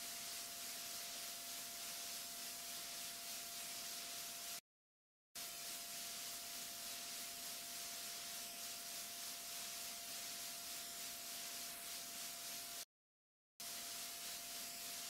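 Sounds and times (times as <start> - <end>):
steady hiss: 0.0 - 4.6, 5.4 - 12.8, 13.6 - 15.0.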